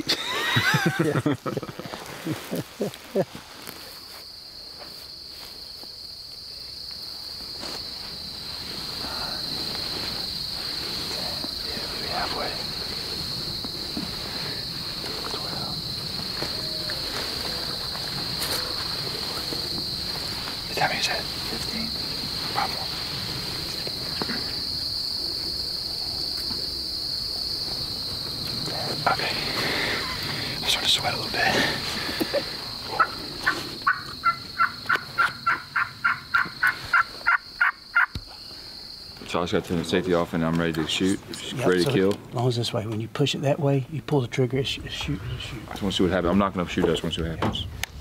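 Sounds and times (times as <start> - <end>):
high-pitched insect chorus: 0.0 - 48.0.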